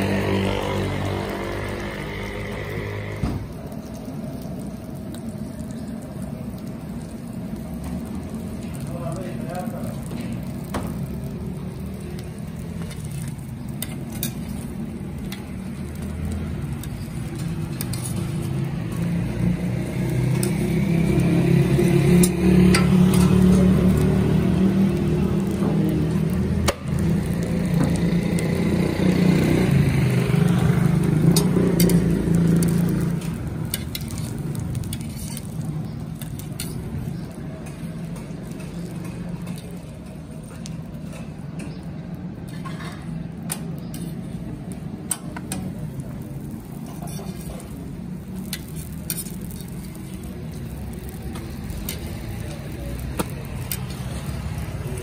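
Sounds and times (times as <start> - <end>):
flatbread sizzling on a griddle: 0.0 - 55.0
vehicle engine: 0.0 - 55.0.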